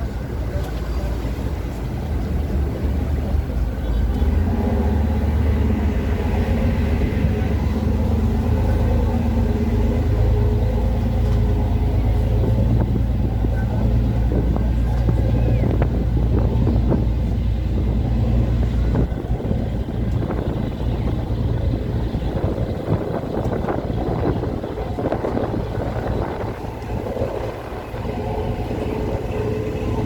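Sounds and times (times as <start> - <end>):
boat engine droning: 0.0 - 30.0
wind buffeting microphone: 0.0 - 30.0.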